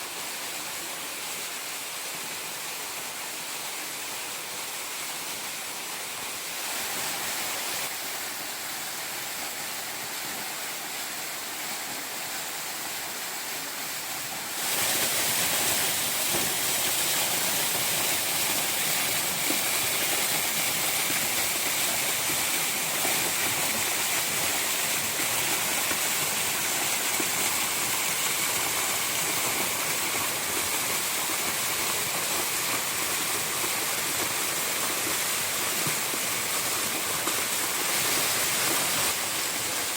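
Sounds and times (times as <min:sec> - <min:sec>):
waterfall splashing onto rocks: 0:06.5 - 0:39.9.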